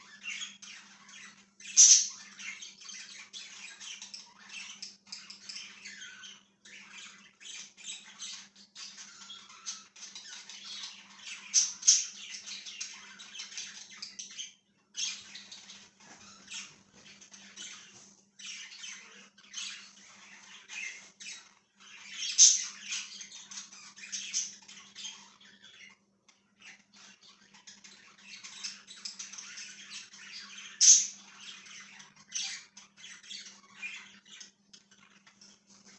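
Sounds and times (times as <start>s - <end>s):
budgerigars chirping and squawking: 0.0s - 35.9s.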